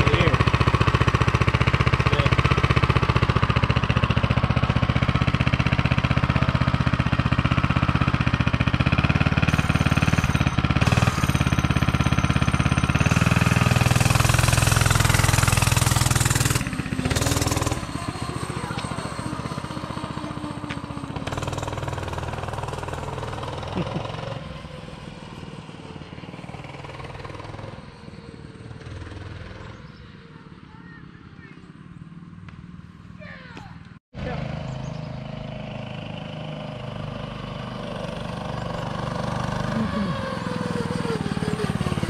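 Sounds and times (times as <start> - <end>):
mini bike engine running: 0.0 - 31.2, 33.2 - 42.0.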